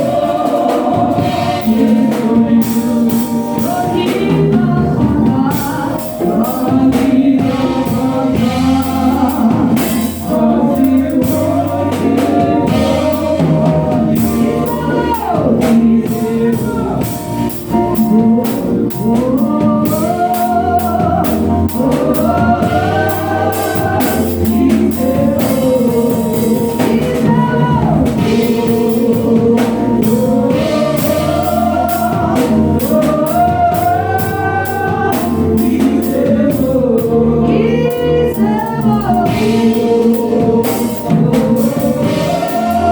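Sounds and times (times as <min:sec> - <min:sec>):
band with drums: 0:00.0 - 0:42.9
group singing gospel song: 0:00.0 - 0:42.9.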